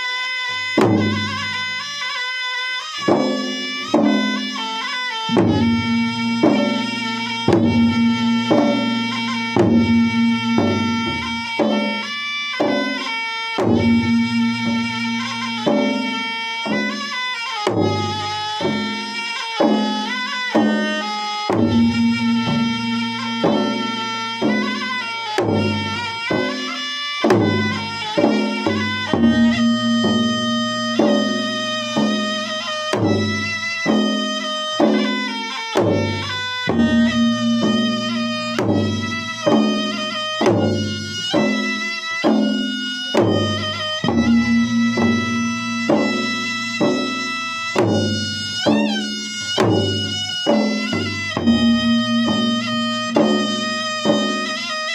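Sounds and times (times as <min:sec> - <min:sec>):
drums beating steady rhythm: 0:00.0 - 0:54.9
continuous melody line: 0:02.9 - 0:54.9.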